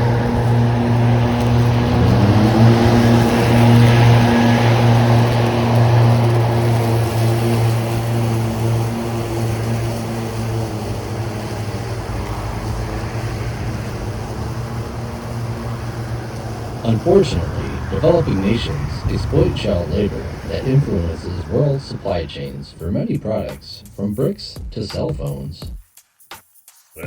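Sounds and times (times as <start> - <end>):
motor humming: 0.0 - 23.1.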